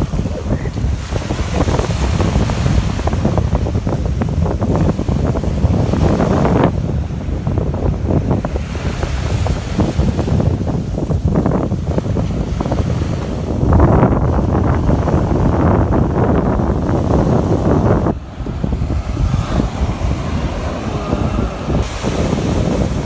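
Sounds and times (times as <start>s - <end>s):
sea waves washing onto beach: 0.0s - 23.0s
wind buffeting microphone: 0.0s - 23.0s.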